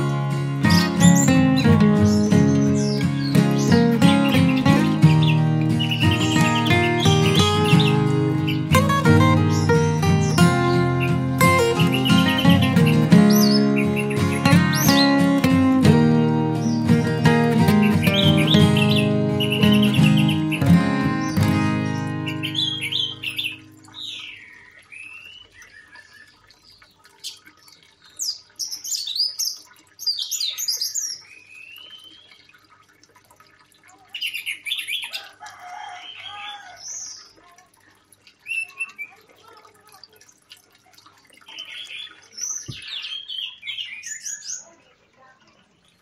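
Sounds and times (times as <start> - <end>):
birds chirping: 0.0 - 32.8, 34.1 - 46.0.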